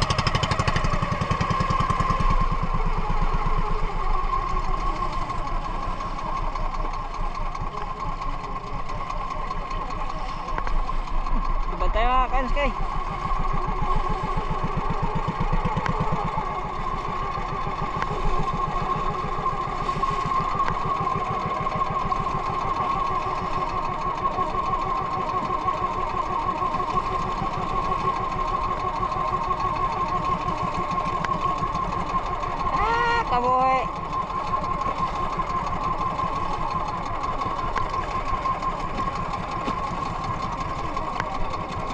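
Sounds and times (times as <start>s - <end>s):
small boat engine running: 0.0s - 41.9s
water rushing along hull: 0.0s - 41.9s.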